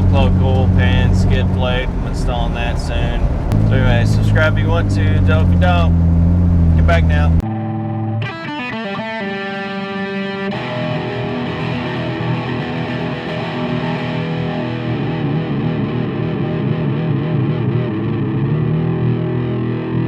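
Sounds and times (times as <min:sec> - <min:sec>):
distorted electric guitar rock music: 0:00.0 - 0:20.0.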